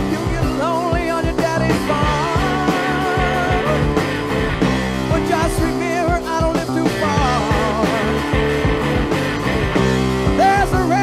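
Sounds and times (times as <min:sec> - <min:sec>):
hard rock band playing: 0:00.0 - 0:11.0.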